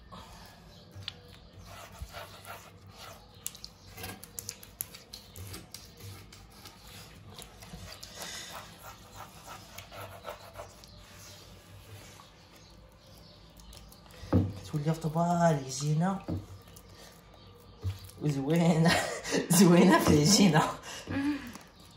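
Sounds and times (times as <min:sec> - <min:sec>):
hand kneading wet dough: 0:00.8 - 0:18.9.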